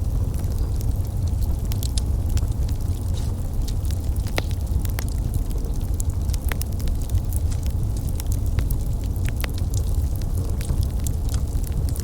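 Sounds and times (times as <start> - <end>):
fire crackling and popping: 0.0 - 12.0
low rumble of flames: 0.0 - 12.0.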